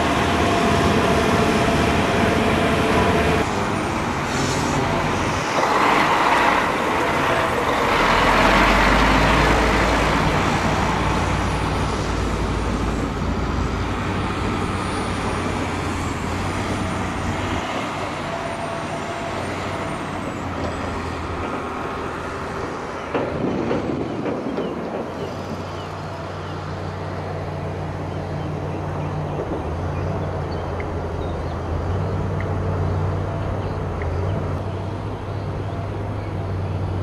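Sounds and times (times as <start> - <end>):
dump truck diesel engine driving past: 0.0 - 37.0.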